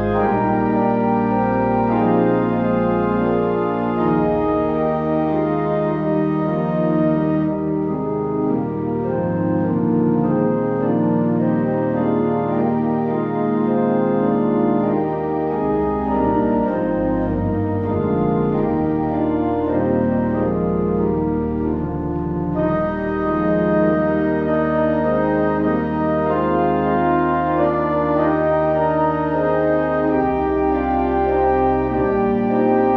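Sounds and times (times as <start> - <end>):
organ playing sustained chords: 0.0 - 32.9.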